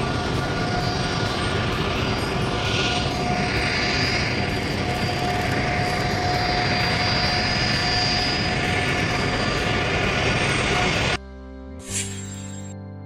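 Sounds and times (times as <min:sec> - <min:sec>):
jet engines rumbling with whine: 0:00.0 - 0:11.2.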